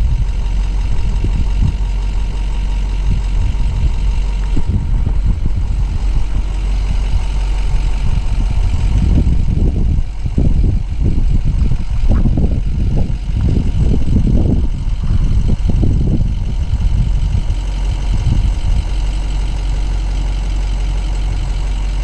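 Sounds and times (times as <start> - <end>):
engine running low: 0.0 - 22.0
vehicle bumps and jolts: 0.0 - 22.0.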